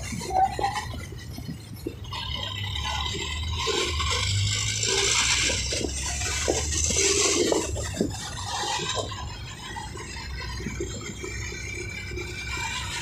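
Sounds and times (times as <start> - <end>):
motorcycle rumble in traffic: 0.0 - 13.0.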